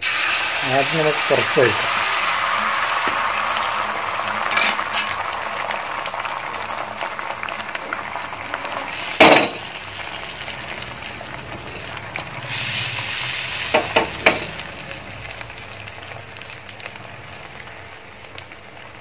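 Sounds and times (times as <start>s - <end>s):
omelette sizzling in pan: 0.0s - 19.0s.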